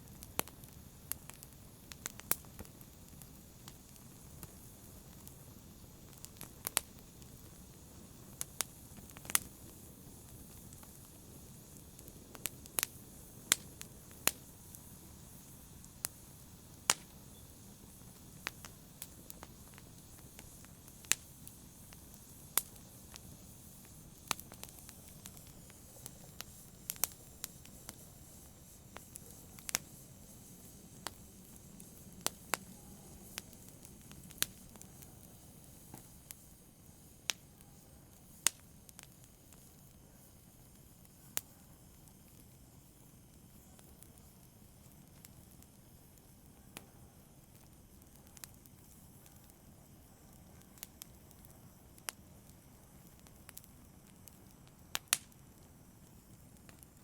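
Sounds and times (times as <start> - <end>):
campfire crackling and popping: 0.0 - 57.0
low hiss of flames: 0.0 - 57.0.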